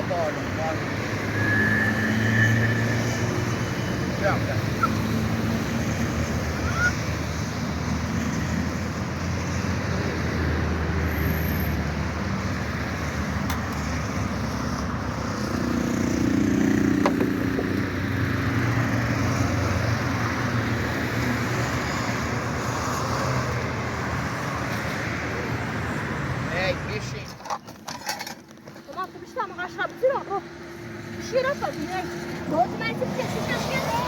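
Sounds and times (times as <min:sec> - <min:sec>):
road or rain noise: 0:00.0 - 0:34.0.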